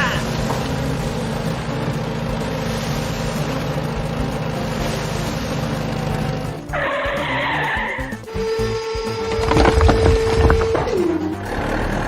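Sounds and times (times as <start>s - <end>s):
tire skid screech: 0.0s - 12.0s
vehicle engine running: 0.0s - 12.0s.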